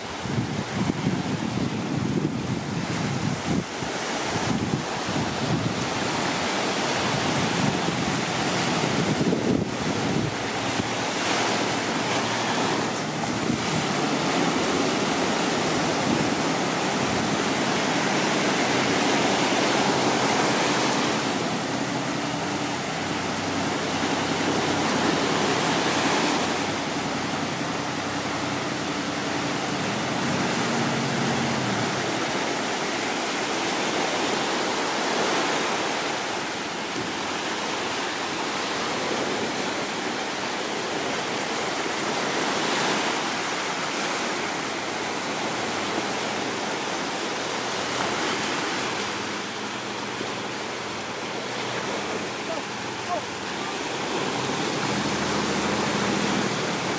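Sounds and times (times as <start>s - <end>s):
sea surf washing ashore: 0.0s - 56.9s.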